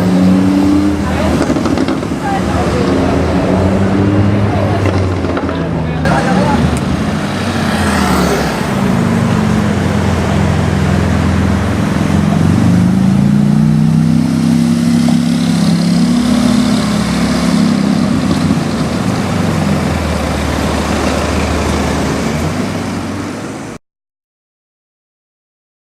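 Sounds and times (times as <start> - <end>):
sports car engine revving: 0.0 - 23.1.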